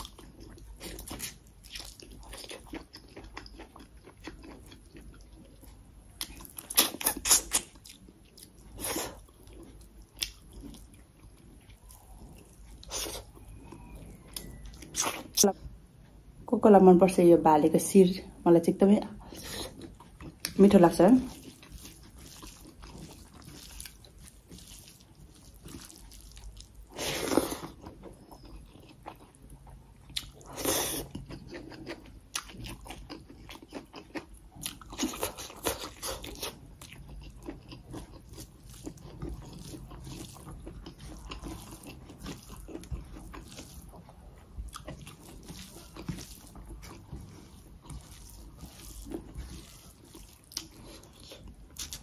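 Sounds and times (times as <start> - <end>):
person chewing and crunching food: 0.0 - 15.5, 19.2 - 52.0.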